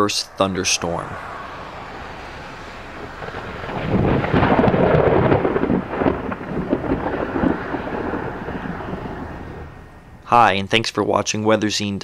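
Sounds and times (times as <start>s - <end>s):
thunder rumbling: 0.3s - 10.3s.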